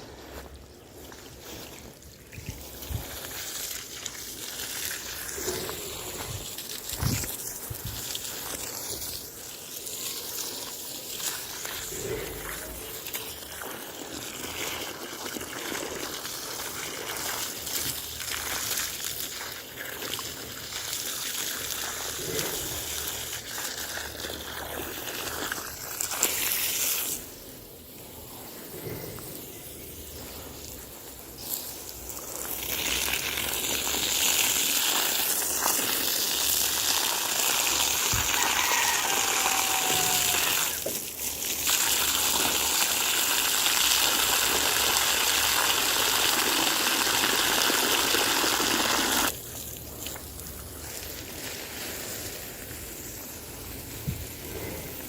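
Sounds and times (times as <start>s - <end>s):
water gushing and splashing: 0.0s - 55.0s.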